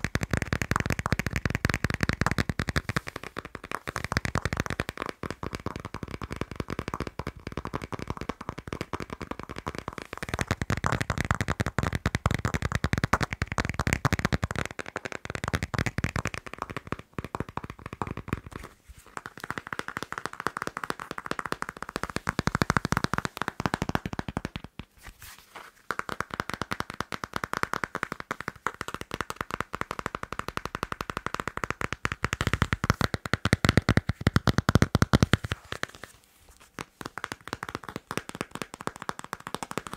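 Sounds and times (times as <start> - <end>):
tapping and scratching on passport: 0.0 - 39.9.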